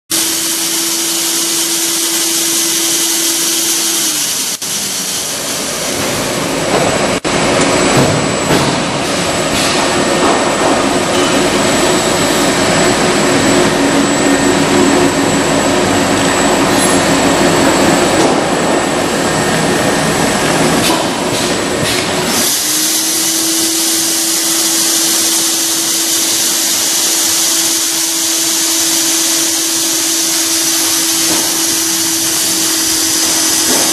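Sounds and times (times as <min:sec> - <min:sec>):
machinery humming: 0:00.1 - 0:33.9.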